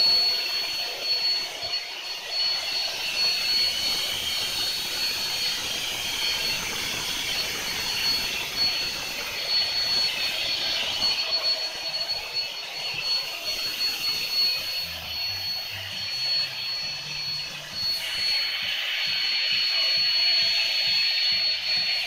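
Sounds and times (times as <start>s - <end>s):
electric blower rushing air: 0.0s - 22.0s
high steady whine: 0.0s - 22.0s.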